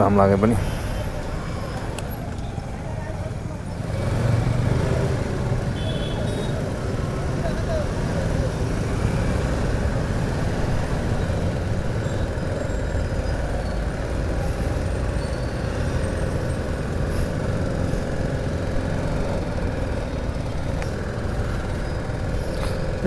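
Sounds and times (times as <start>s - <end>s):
road noise: 0.0s - 23.0s
traffic noise: 0.0s - 23.0s
motorcycle engine: 1.1s - 23.0s.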